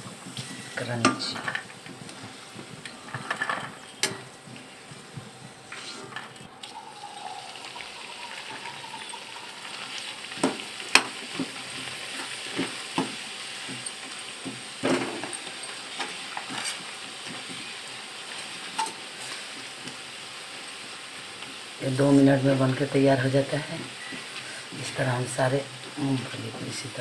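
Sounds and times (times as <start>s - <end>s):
peanuts sizzling in hot oil: 0.0s - 27.0s.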